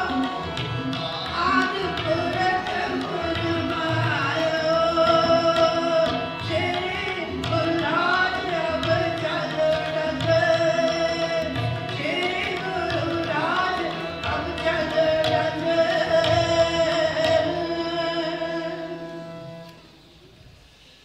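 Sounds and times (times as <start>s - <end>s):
tabla strokes: 0.0s - 18.6s
harmonium chords: 0.0s - 20.2s.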